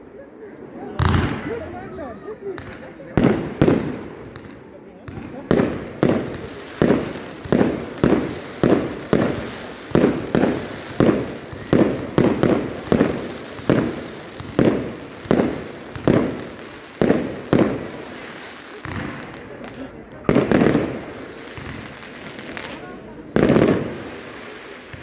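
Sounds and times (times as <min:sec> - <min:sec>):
fireworks bursting with echo: 0:00.6 - 0:25.0.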